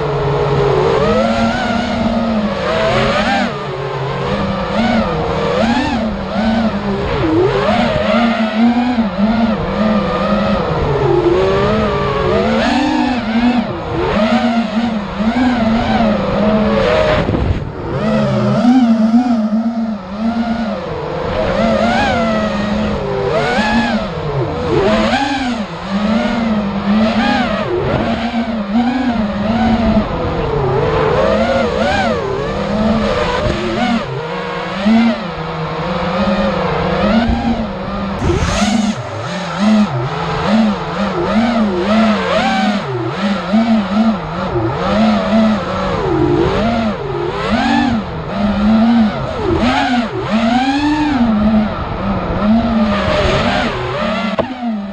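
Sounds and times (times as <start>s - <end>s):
quadcopter motors whining: 0.0s - 54.9s.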